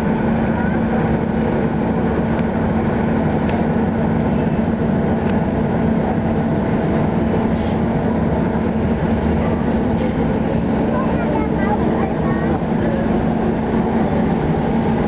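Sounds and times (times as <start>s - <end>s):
heavy rail machinery humming: 0.0s - 15.0s.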